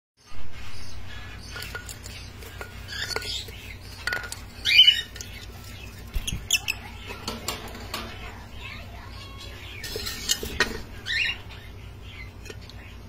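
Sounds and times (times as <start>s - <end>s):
lovebirds squawking and squeaking: 0.5s - 13.0s.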